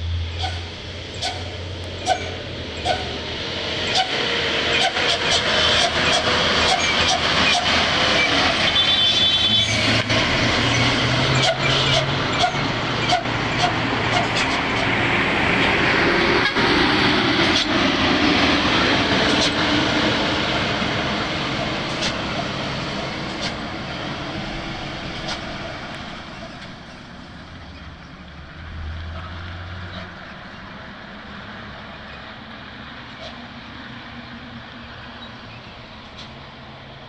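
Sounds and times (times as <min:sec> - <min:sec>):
diesel truck engine working hard: 0:00.0 - 0:37.0.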